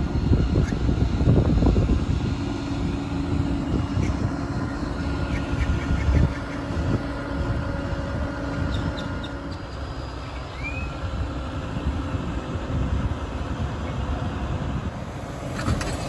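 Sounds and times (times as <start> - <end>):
outboard motor droning: 0.0 - 16.0
wind buffeting microphone: 0.0 - 16.0.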